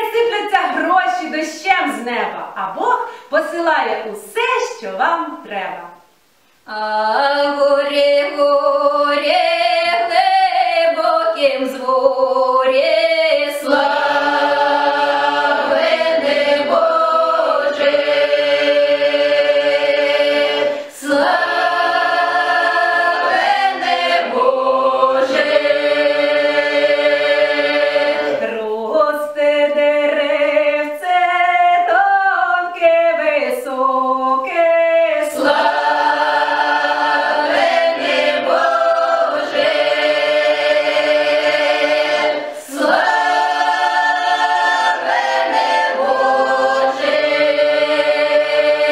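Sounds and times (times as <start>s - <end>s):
mixed choir singing a carol: 6.7s - 48.9s.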